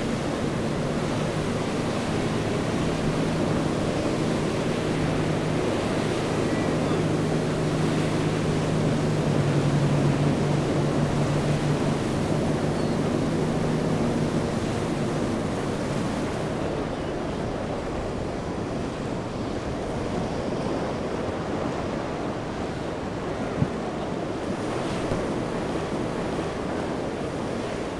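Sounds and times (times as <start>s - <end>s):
boat engine drone: 0.0s - 27.9s
waves and surf rushing: 0.0s - 27.9s
wind buffeting microphone: 0.0s - 27.9s.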